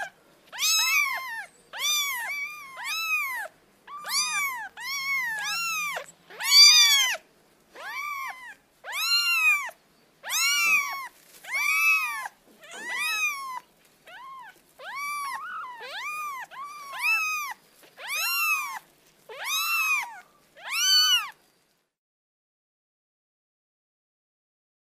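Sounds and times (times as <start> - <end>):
kitten meowing: 0.0 - 21.4.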